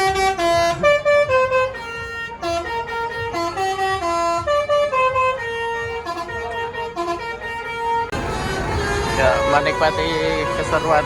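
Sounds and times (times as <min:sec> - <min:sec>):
musical bus air horn: 0:00.0 - 0:11.0.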